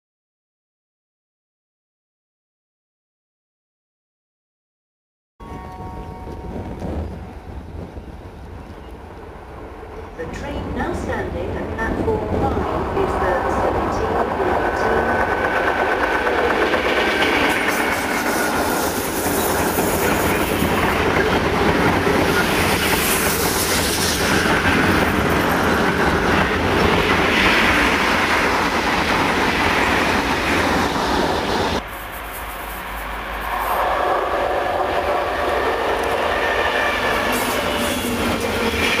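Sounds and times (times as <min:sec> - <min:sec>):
freight train wheels rumbling on rails: 0:05.4 - 0:39.0.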